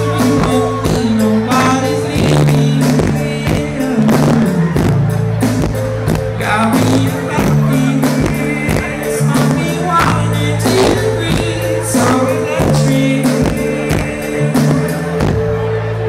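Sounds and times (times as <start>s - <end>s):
person singing: 0.0s - 15.8s
steady drum beat: 0.0s - 15.8s
bass: 0.0s - 16.0s
keyboard chords: 0.0s - 16.0s.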